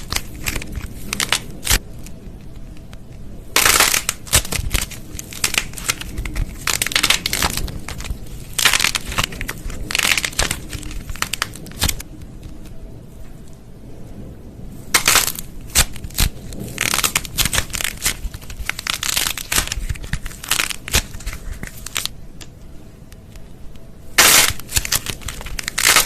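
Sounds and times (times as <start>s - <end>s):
slime crackling and popping: 0.0s - 12.7s, 14.9s - 22.5s, 24.1s - 26.0s.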